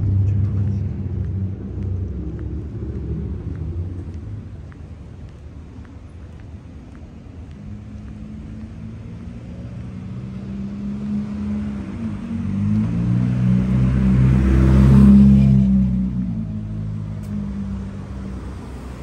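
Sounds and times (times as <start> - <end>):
vehicle engine passing: 0.0 - 5.7, 7.2 - 19.0.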